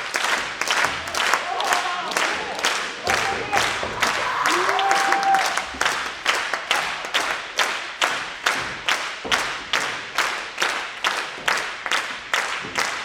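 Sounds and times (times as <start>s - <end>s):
audience clapping in rhythm: 0.0s - 13.0s.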